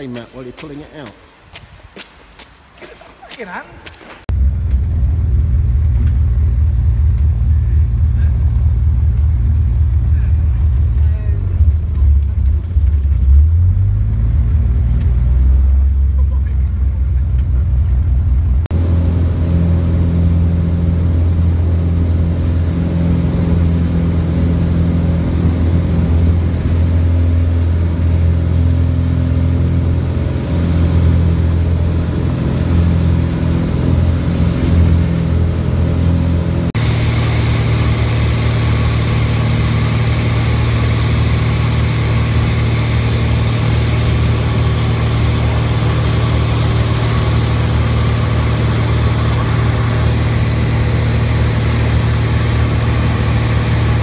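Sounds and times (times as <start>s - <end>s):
propeller plane engine drone: 4.3s - 54.0s.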